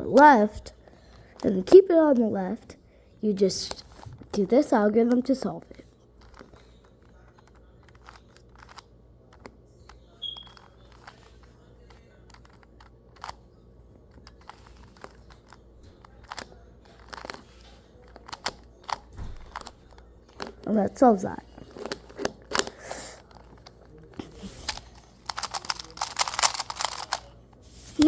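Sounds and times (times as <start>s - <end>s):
low steady hum: 0.0s - 28.0s
puzzle cube plastic clicks: 3.4s - 4.7s, 6.2s - 28.0s.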